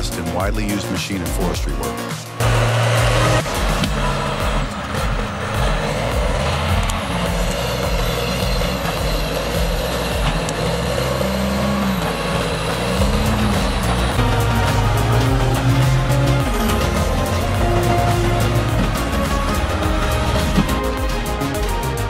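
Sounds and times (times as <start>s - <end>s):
diesel engine running under load: 2.4s - 22.0s.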